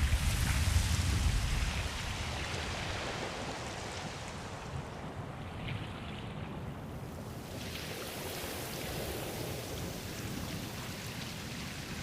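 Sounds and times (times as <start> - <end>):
ocean waves washing on shore: 0.0 - 12.0.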